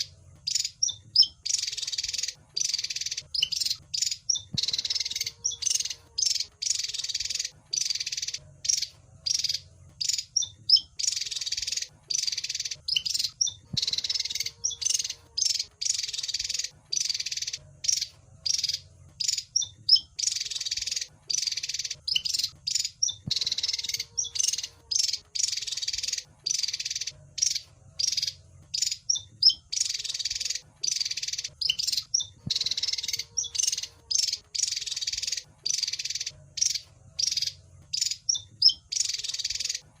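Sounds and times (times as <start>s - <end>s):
bird chattering and chirping: 0.0s - 40.0s.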